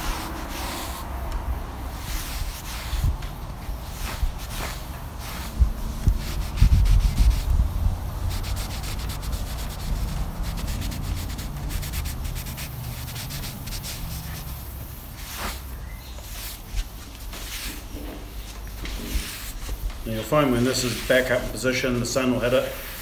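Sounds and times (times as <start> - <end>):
cloth rubbing on wood: 0.0 - 23.0.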